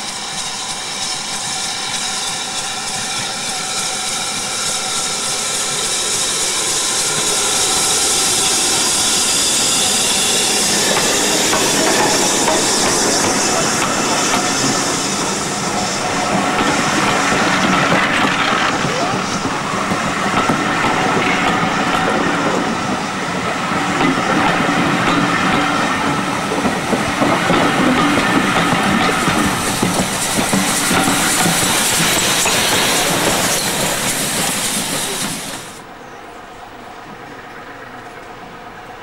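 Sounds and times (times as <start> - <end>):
train coaches rolling past: 0.0 - 39.0.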